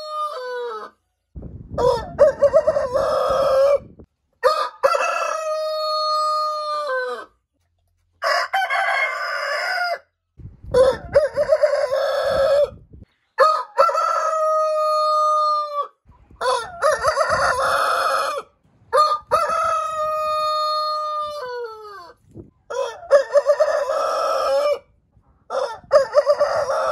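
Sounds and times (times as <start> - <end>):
roosters crowing: 0.0 - 1.0, 1.8 - 7.4, 8.2 - 10.1, 10.7 - 26.9.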